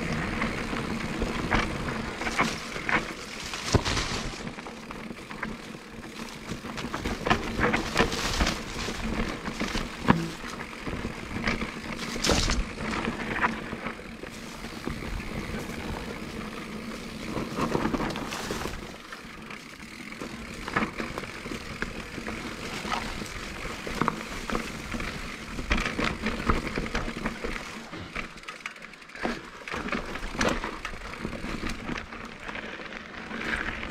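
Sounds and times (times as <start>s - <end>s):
bike knocks and rattles: 0.0s - 33.9s
bike tyre rolling noise: 0.0s - 33.9s.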